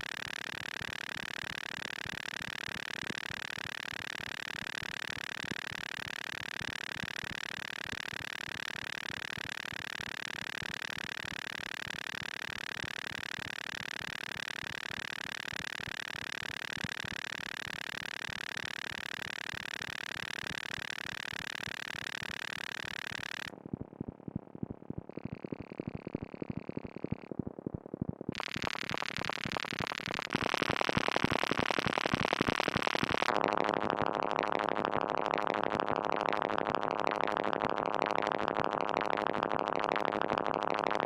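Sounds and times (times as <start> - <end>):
synthesizer crackling buzz: 0.0 - 41.0.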